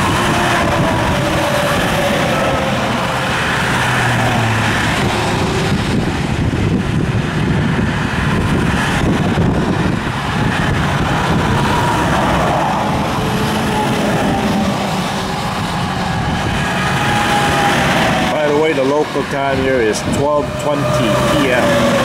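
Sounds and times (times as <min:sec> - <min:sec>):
highway traffic passing: 0:00.0 - 0:22.0.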